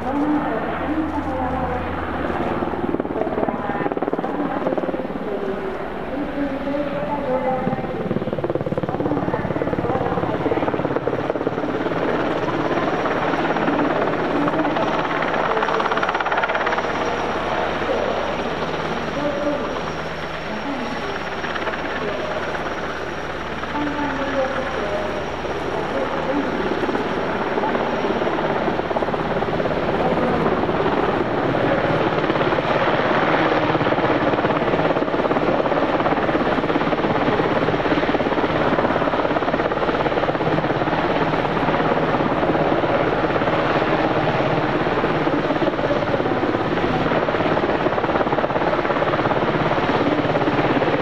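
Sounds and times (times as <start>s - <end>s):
helicopter rotors beating: 0.0s - 51.0s.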